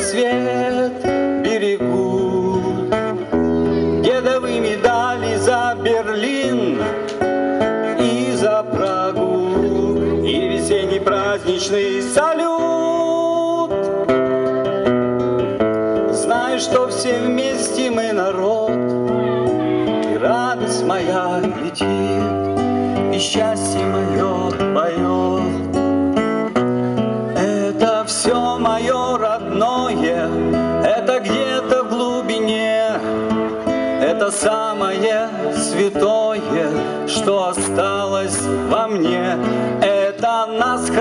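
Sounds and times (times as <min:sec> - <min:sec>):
man singing: 0:00.0 - 0:14.8, 0:15.5 - 0:41.0
acoustic guitar: 0:00.0 - 0:41.0.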